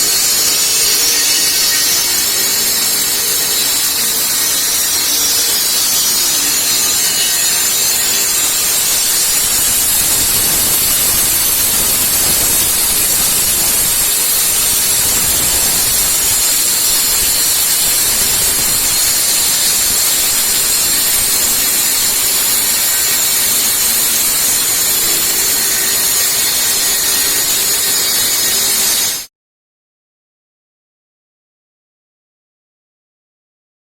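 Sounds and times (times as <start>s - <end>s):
concrete saw blade grinding: 0.0s - 29.3s.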